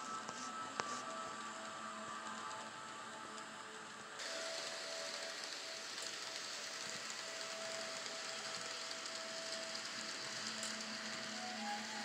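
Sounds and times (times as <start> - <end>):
model train wheels and motor hiss: 0.0 - 12.0.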